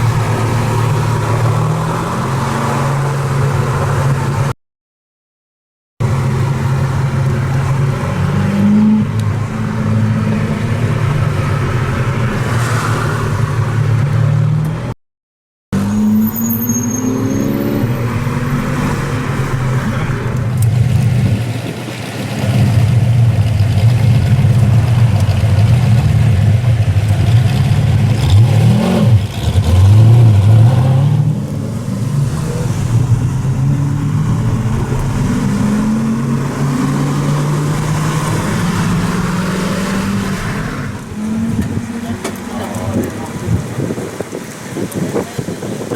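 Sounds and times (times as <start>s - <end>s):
car engine revving: 0.0s - 4.5s, 6.0s - 15.0s, 15.7s - 45.2s.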